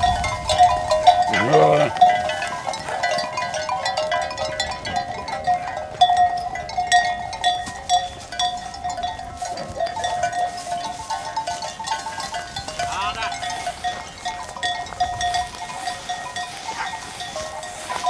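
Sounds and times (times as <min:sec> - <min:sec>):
sheep bells clanking: 0:00.0 - 0:18.0.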